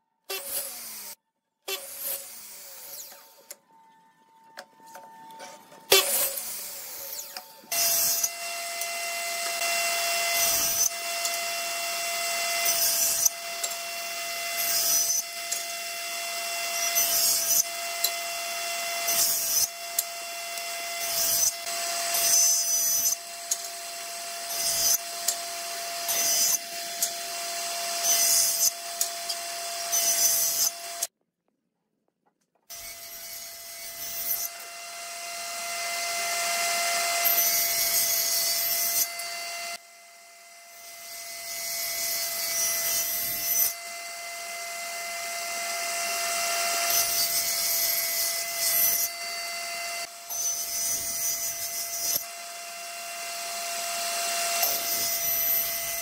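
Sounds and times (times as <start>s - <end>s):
table saw cutting wood: 0.0s - 31.1s, 32.7s - 56.0s.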